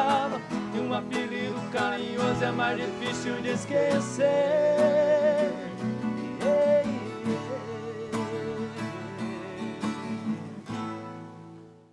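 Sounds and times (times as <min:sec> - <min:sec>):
plucked acoustic guitar: 0:00.0 - 0:11.9.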